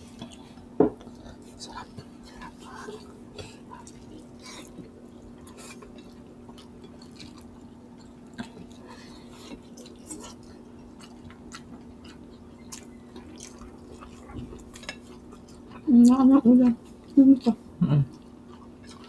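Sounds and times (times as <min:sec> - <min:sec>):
people chewing food: 0:00.0 - 0:19.0
steady low hum: 0:00.0 - 0:19.0.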